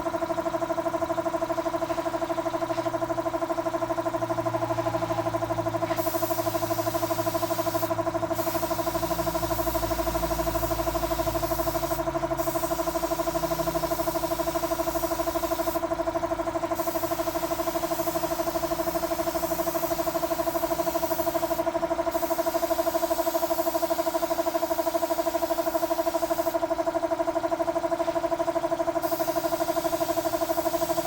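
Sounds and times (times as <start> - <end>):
motor humming steadily: 0.0 - 31.0.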